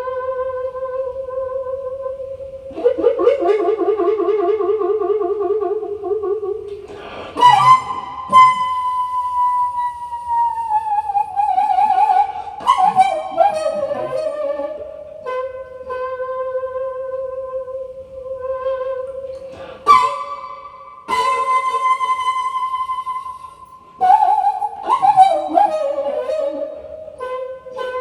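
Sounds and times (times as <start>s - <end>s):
bamboo flute with vibrato: 0.0s - 28.0s.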